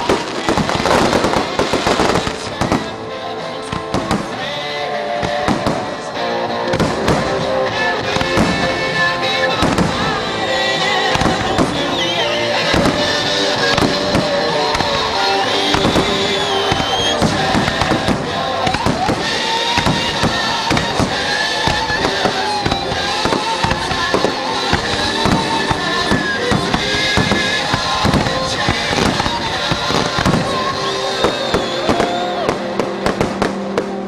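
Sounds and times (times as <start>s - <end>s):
fireworks banging and crackling: 0.0s - 34.0s
music playing: 0.0s - 34.0s.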